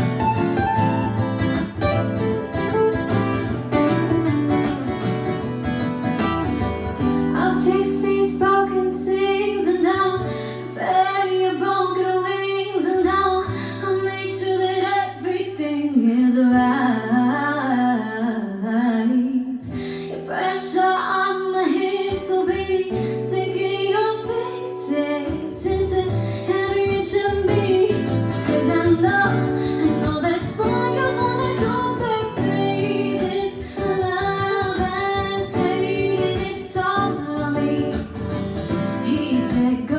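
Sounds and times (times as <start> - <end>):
plucked guitar: 0.0 - 17.6, 19.4 - 39.9
woman singing: 7.0 - 39.9.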